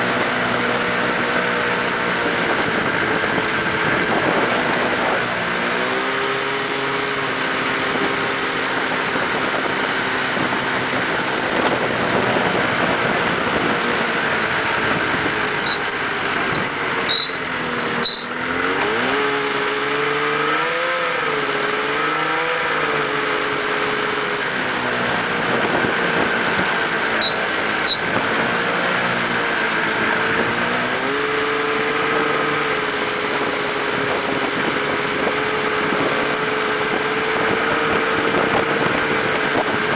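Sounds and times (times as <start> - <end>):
buggy engine running: 0.0 - 39.9.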